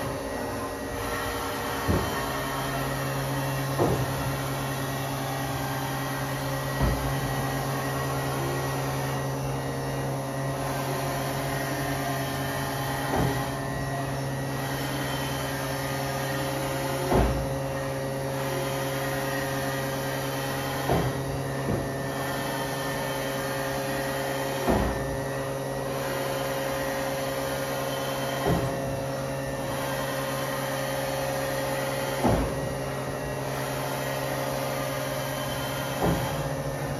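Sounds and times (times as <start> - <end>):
machining center motors humming: 0.0 - 36.9.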